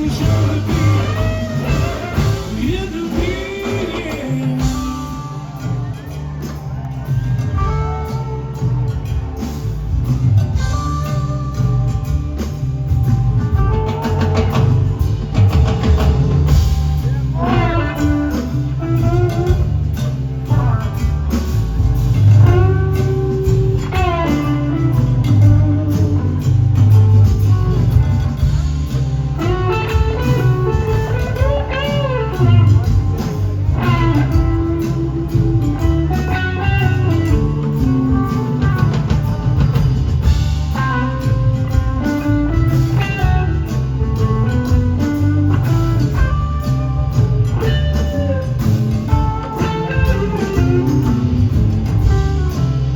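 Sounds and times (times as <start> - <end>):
bass guitar: 0.0 - 52.9
drum kit: 0.0 - 52.9
electric guitar lead: 0.0 - 52.9.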